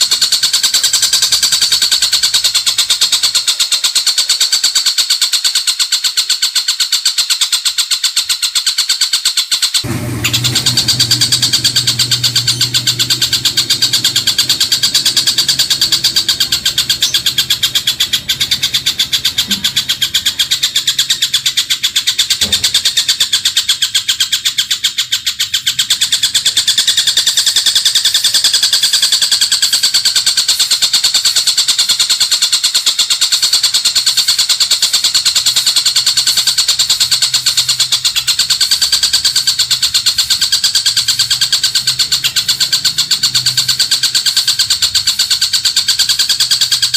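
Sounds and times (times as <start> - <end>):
fast high-pitched bird trill: 0.0 - 46.9.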